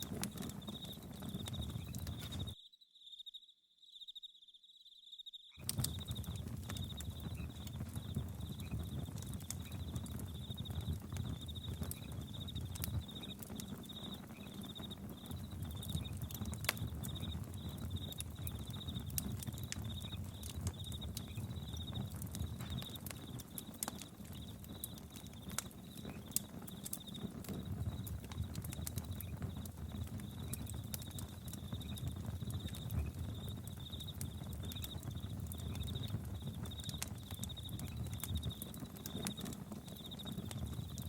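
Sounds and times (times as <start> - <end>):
campfire crackling and popping: 0.0 - 2.6, 5.6 - 41.0
crickets chirping: 0.0 - 41.0.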